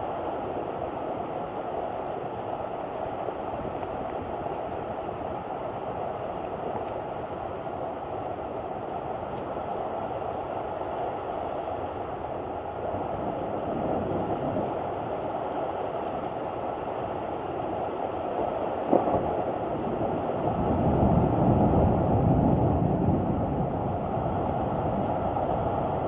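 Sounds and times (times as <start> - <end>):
heavy downpour: 0.0 - 26.0
wind: 0.0 - 26.0.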